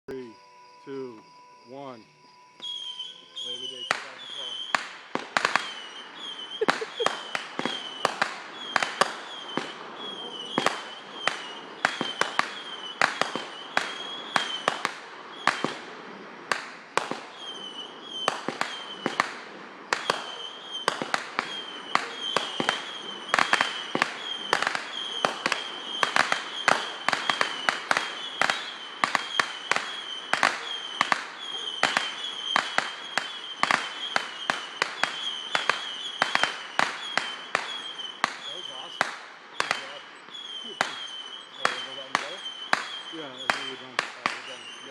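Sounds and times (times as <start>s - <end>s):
fireworks bangs and crackles: 2.6s - 44.9s.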